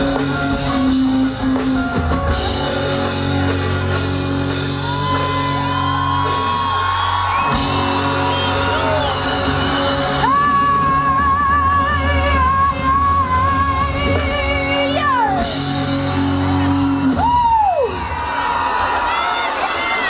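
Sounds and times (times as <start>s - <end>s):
held lead melody line: 0.0s - 17.5s
live pop-rock band playing: 0.0s - 20.0s.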